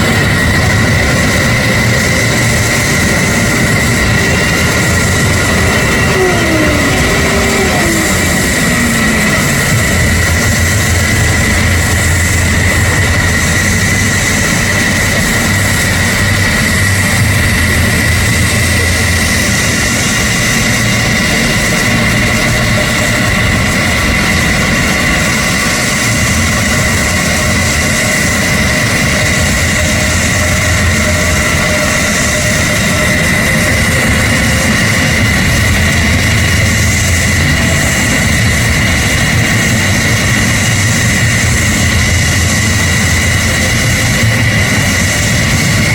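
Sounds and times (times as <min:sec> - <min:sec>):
jet engines idling: 0:00.0 - 0:45.9.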